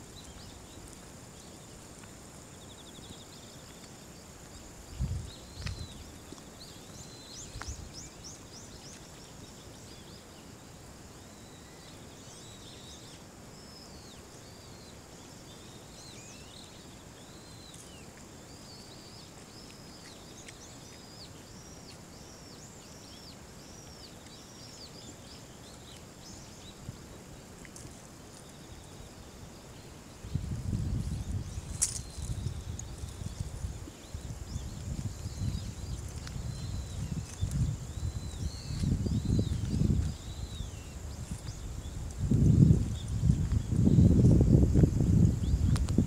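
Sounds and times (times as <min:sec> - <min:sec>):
faint steady high whine: 0:00.0 - 0:46.0
small birds chirping: 0:00.0 - 0:46.0.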